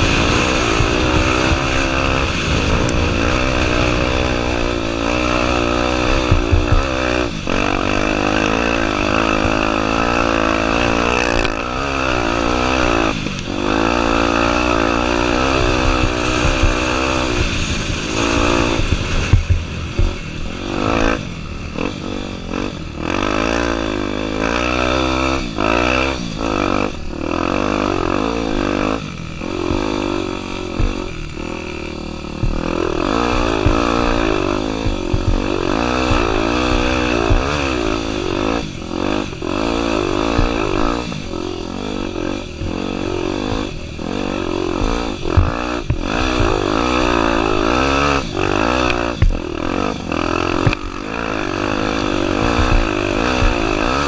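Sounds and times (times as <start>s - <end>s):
knocks and clatter from bike: 0.0s - 54.0s
motorcycle engine revving: 0.0s - 54.0s.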